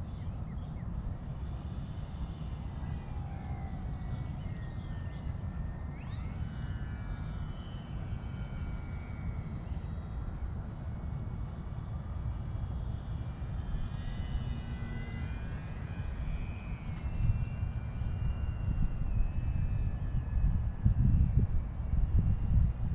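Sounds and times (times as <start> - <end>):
model airplane motor whine: 0.0 - 22.9.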